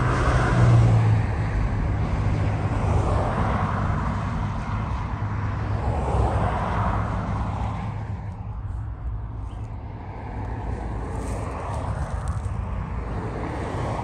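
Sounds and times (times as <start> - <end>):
cars driving past: 0.0 - 14.0
steady low rumble: 0.0 - 14.0.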